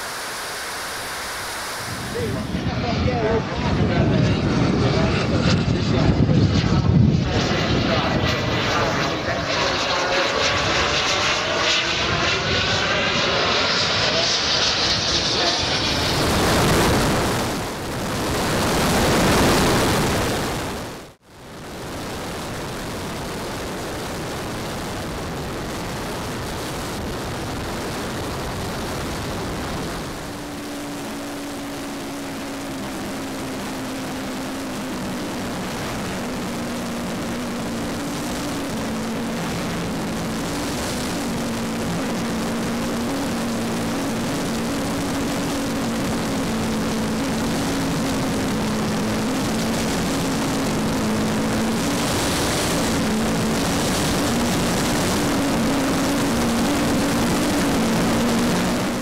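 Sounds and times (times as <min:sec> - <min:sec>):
rushing air: 0:00.0 - 0:05.7, 0:15.2 - 0:59.0
model jet turbines: 0:00.0 - 0:59.0.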